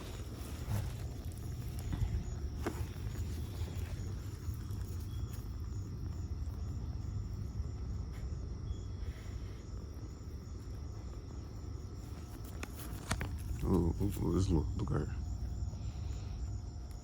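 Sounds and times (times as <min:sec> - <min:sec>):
pulsing insect trill: 0:00.0 - 0:17.0.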